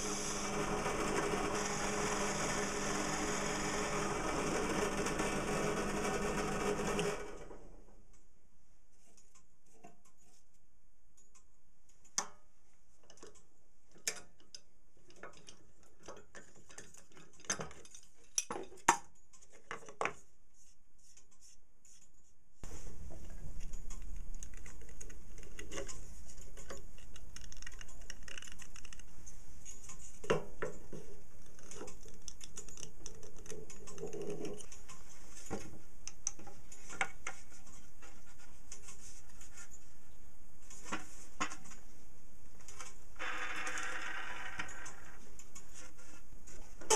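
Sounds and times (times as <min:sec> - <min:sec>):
background noise: 0:00.0 - 0:46.9.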